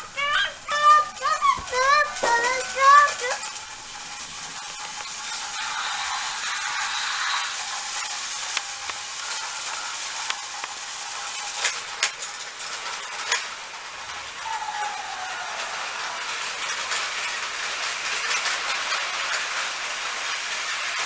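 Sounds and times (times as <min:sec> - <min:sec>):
toy train motor whirring: 0:00.0 - 0:21.0.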